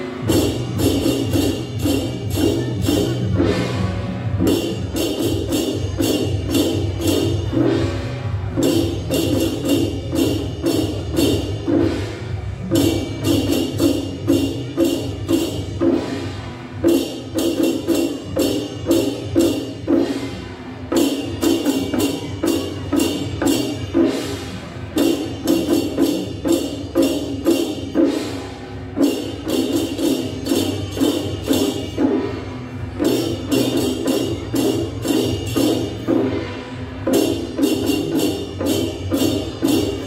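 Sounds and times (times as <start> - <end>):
bright metallic percussion strikes: 0.0 - 40.0
drums beating quick rhythm: 0.0 - 40.0.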